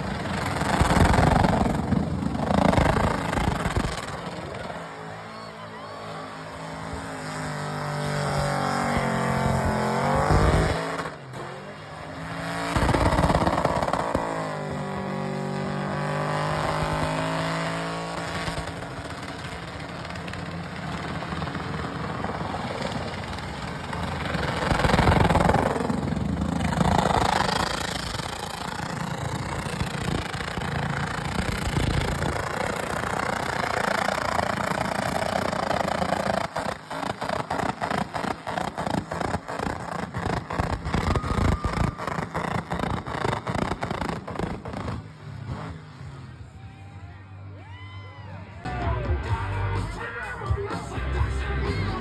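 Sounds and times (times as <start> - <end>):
car engine revving: 0.0 - 46.4.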